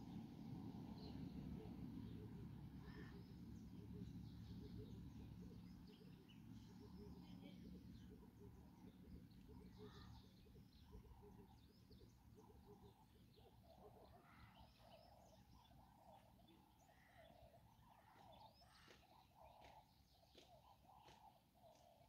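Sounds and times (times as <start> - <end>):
faint bird chirps and trills: 0.0 - 22.0
low background noise: 0.0 - 22.0.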